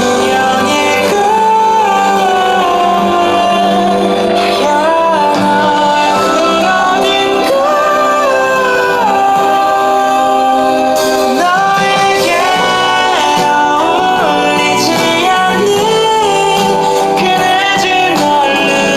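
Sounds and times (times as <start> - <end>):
instrumental accompaniment: 0.0 - 18.9
person singing gliding melody: 0.0 - 18.9.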